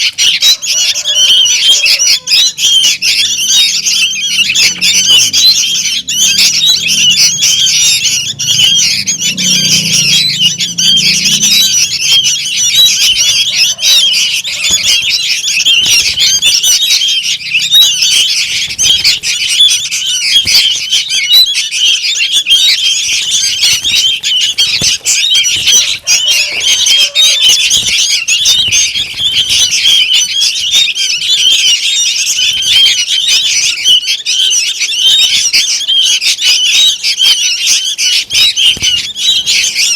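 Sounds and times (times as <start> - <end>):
young birds chirping: 0.0 - 39.9.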